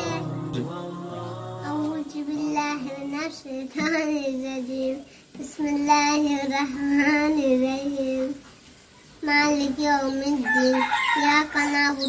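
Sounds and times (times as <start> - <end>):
boy singing devotional song: 0.0 - 8.5, 9.2 - 12.0.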